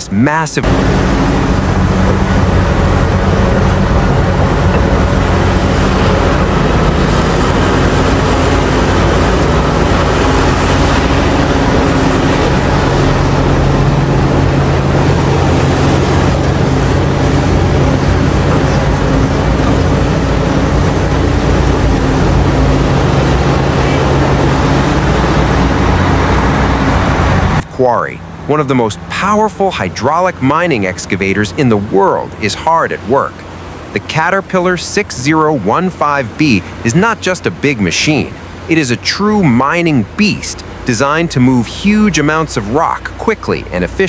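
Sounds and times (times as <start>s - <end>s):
excavator diesel engine under load: 0.0s - 44.0s.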